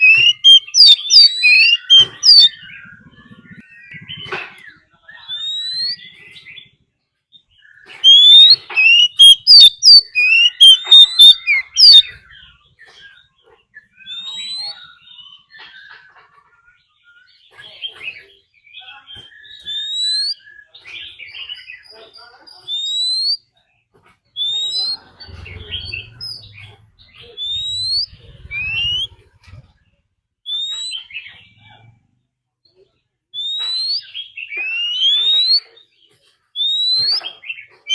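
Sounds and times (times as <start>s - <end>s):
magpie-robin singing: 0.0s - 23.6s, 24.2s - 29.3s, 30.5s - 31.6s, 33.4s - 37.9s.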